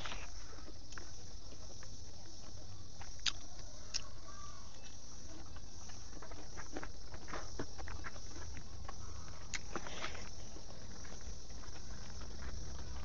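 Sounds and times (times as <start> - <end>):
mouth clicks and chewing: 0.0 - 4.2, 4.8 - 13.0
steady low hum: 0.0 - 13.0.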